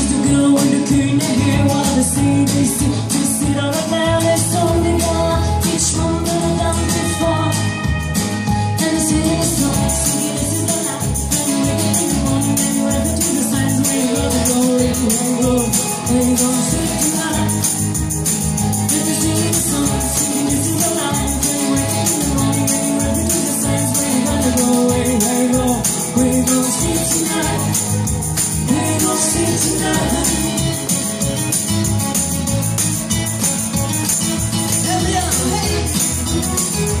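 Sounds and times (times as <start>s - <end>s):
man singing: 0.0s - 7.6s, 8.8s - 17.8s, 18.8s - 28.0s, 28.6s - 31.0s, 34.7s - 36.3s
woman singing: 0.0s - 8.1s, 8.7s - 18.0s, 18.7s - 31.1s
backing music with steady beat: 0.0s - 37.0s.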